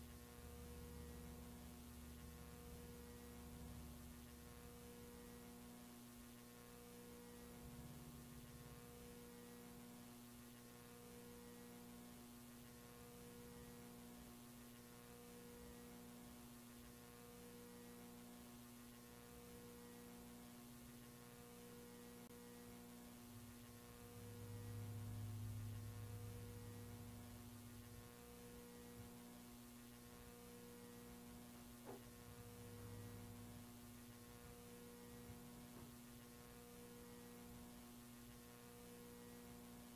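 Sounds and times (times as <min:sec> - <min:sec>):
faint pulsing electrical hum: 0:00.0 - 0:39.9.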